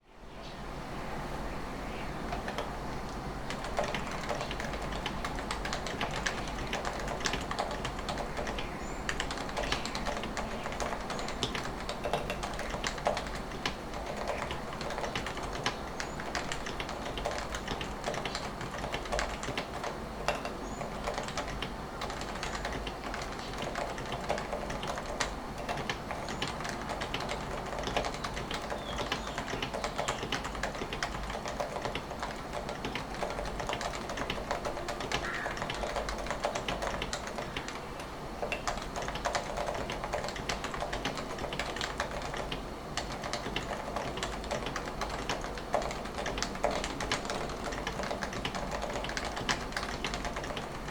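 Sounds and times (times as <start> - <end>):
soft muted keyboard typing: 2.2 - 50.9.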